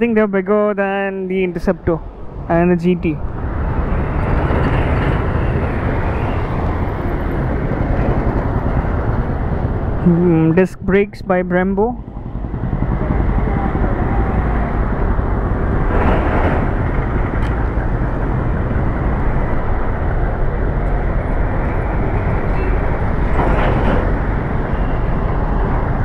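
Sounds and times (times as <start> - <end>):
loud street noise: 3.2 - 10.8, 11.9 - 26.0.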